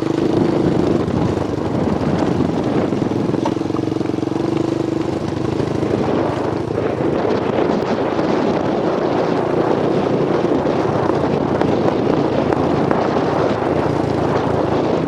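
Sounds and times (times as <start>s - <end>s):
motorcycle engine running: 0.0s - 15.0s
wind rushing on microphone: 0.0s - 15.0s.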